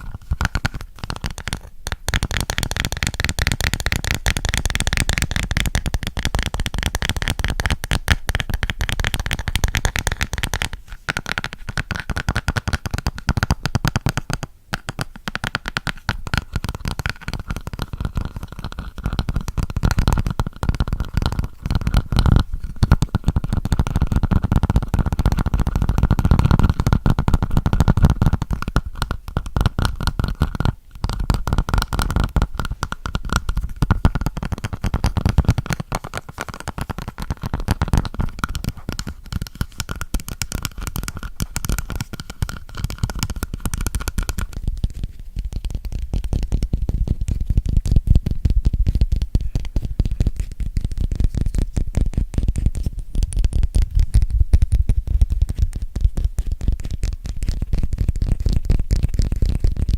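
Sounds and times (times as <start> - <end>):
fast dense tapping: 0.0 - 59.9.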